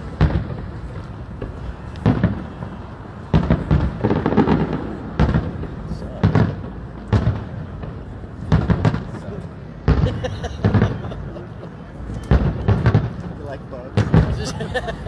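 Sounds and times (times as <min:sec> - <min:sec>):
fireworks bangs and crackle: 0:00.0 - 0:15.0
fireworks booming: 0:00.0 - 0:15.0.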